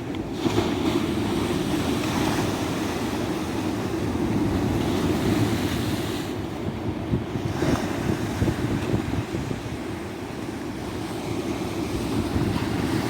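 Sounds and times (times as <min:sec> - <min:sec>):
ocean waves washing on beach: 0:00.0 - 0:13.0.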